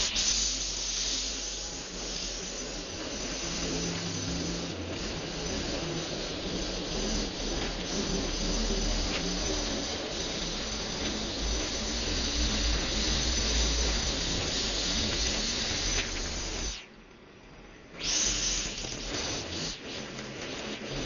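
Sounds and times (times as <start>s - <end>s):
string trimmer running: 1.9s - 16.8s, 18.0s - 21.0s.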